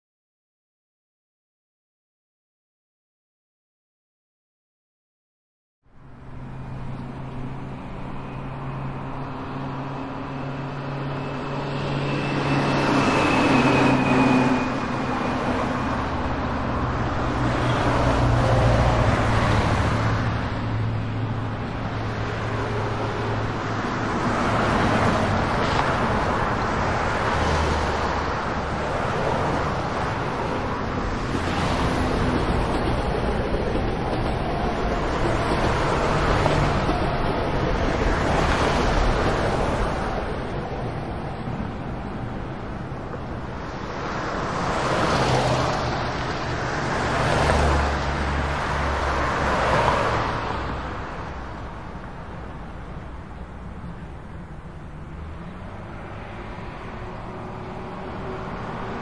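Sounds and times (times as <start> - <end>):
street traffic rumble: 5.8 - 59.0.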